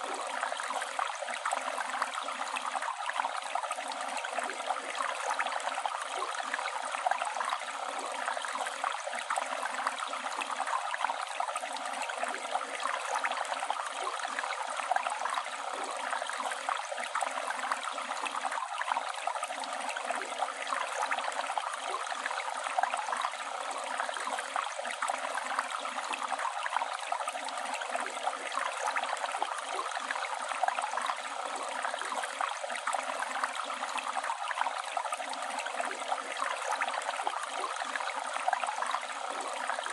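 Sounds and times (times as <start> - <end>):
river running water: 0.0 - 39.9.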